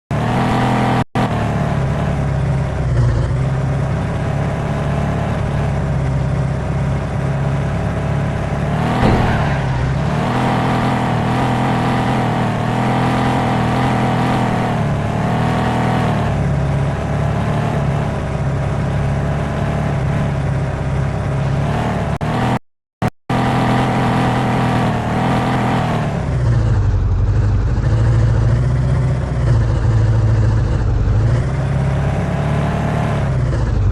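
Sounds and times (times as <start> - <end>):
car engine revving: 0.1 - 22.6, 23.3 - 33.9.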